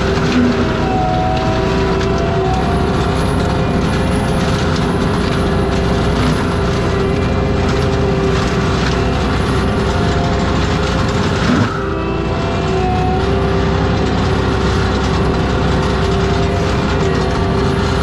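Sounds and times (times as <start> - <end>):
track loader mulcher droning: 0.0 - 18.0.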